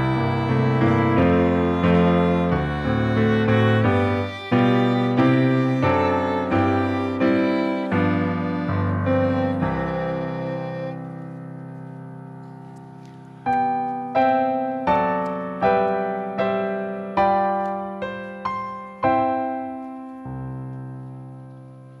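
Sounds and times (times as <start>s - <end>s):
piano playing slow chords: 0.0s - 22.0s.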